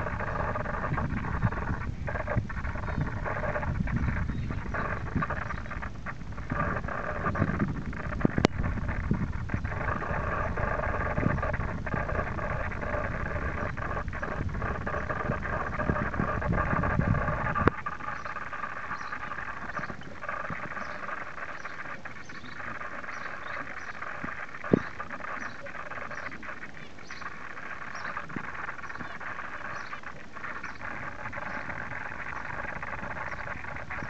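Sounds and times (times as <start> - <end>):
low rumble: 0.0 - 34.0
small birds chirping: 0.0 - 34.0.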